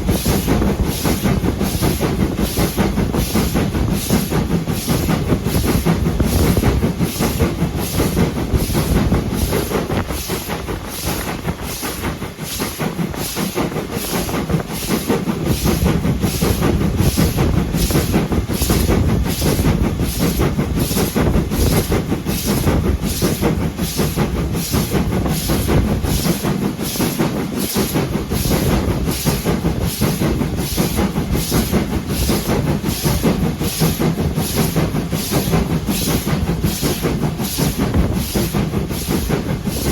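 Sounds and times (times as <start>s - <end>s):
train rumbling with rhythmic beat: 0.0s - 39.9s.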